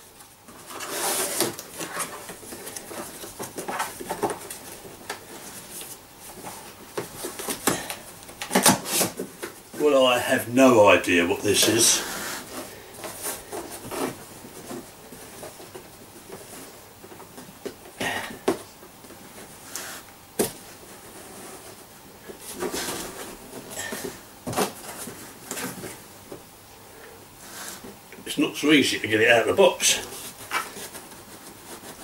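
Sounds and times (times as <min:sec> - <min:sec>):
cardboard rustling and scraping: 0:00.0 - 0:26.5, 0:29.6 - 0:32.0.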